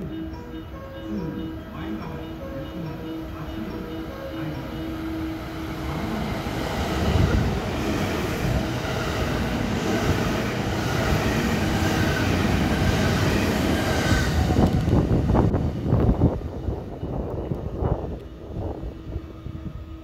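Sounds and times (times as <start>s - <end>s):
train passing on rails: 0.0s - 20.0s.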